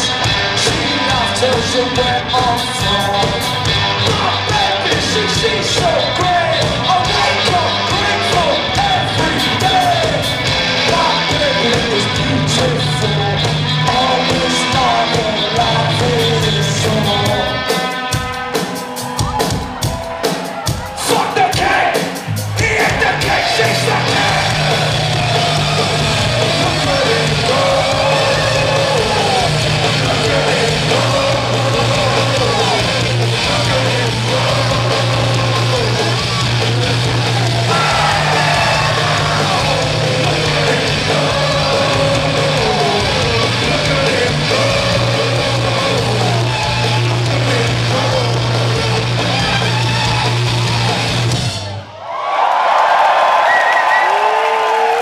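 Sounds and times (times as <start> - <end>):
vocals: 0.0 - 51.8
live rock band playing: 0.0 - 51.9.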